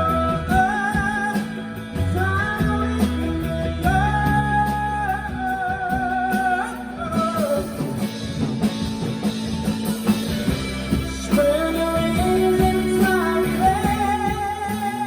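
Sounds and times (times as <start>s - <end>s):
rock band playing live: 0.0s - 15.0s
steady drum beat: 0.0s - 15.0s.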